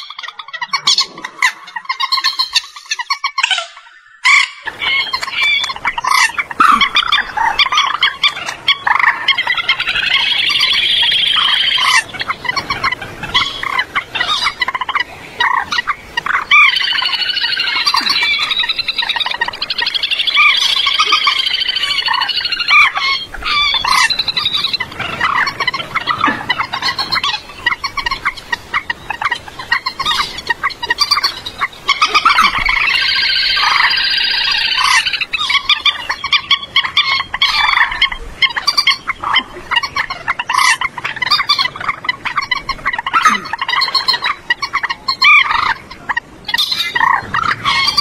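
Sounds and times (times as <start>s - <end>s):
moorhens calling: 0.0s - 48.0s.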